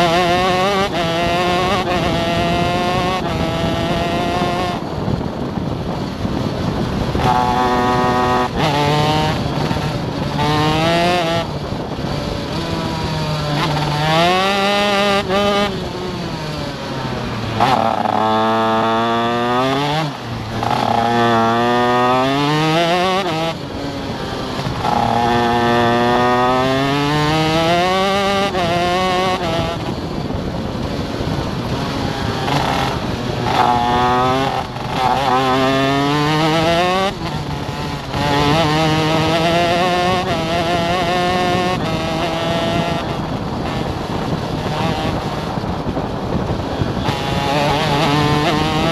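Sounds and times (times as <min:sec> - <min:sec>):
kart engine accelerating: 0:00.0 - 0:48.9.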